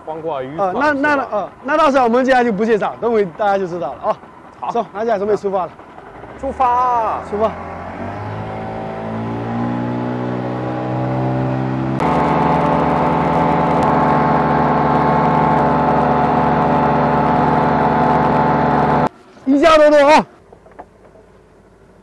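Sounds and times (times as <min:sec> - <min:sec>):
outboard motors revving: 0:00.0 - 0:19.1
rush of boat wake: 0:00.8 - 0:19.1.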